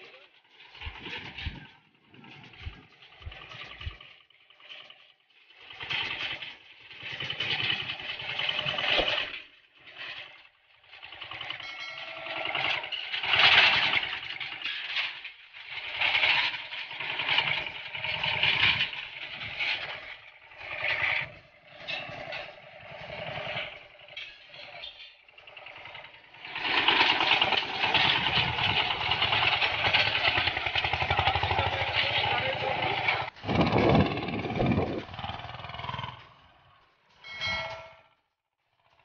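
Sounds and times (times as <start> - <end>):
power weeder engine running: 0.0 - 37.2.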